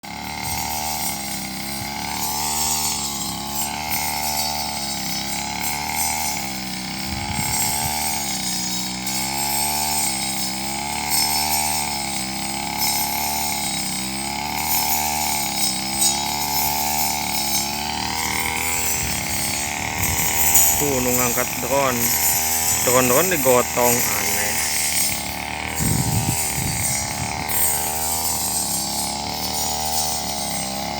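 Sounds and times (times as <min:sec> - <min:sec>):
brush cutter engine cutting grass: 0:00.0 - 0:30.9.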